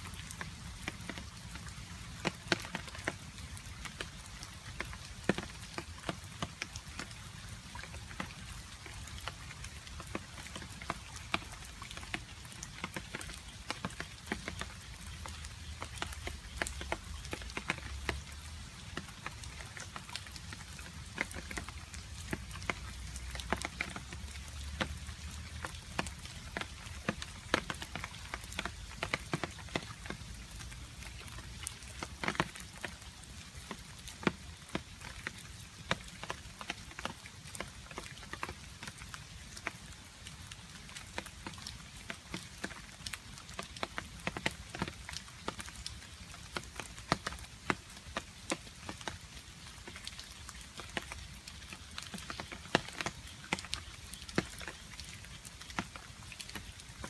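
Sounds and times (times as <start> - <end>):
steady hiss of rain: 0.0 - 57.0.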